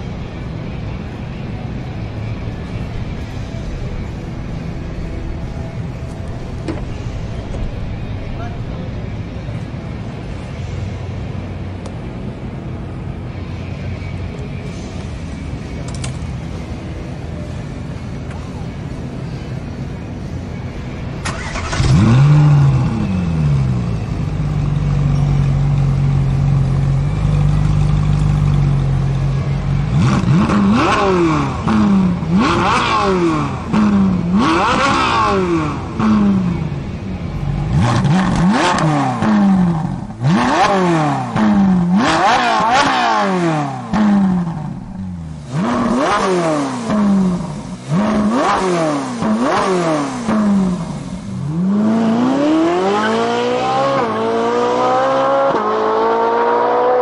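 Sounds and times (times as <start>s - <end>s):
sports car engine starting and idling: 0.0s - 57.0s.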